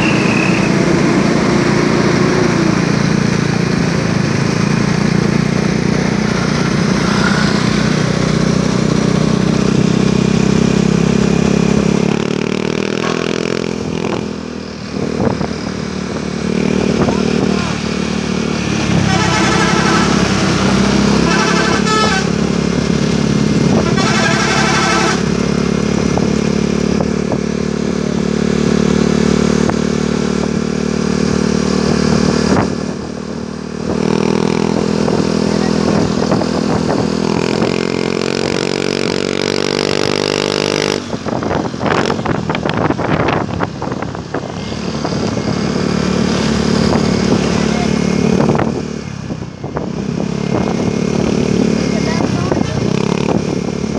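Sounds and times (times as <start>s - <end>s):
bus and motorcycle engines running: 0.0s - 53.9s
engine revving: 0.0s - 53.9s
road traffic: 0.0s - 53.9s.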